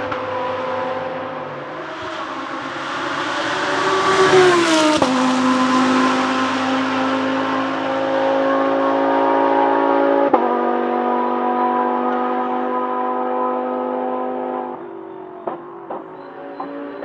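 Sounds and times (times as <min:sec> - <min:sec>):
racing car passing at speed: 0:00.0 - 0:17.0.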